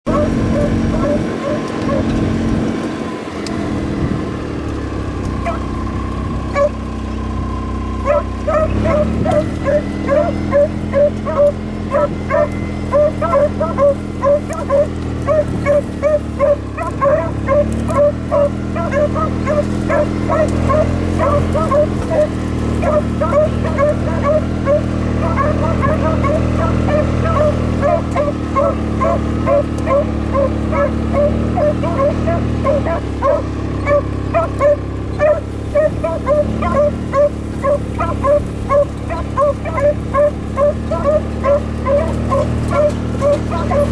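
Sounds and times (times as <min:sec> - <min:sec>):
utility vehicle engine running: 0:00.0 - 0:43.9
dogs baying: 0:00.1 - 0:03.0, 0:03.8 - 0:43.9.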